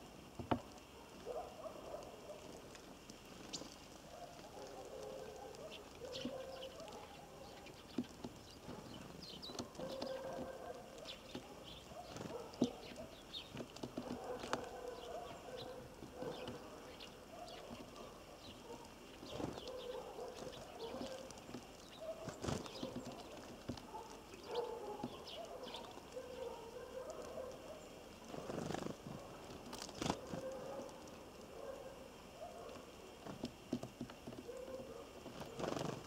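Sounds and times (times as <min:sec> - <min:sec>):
birds pecking on feeder: 0:00.1 - 0:36.0.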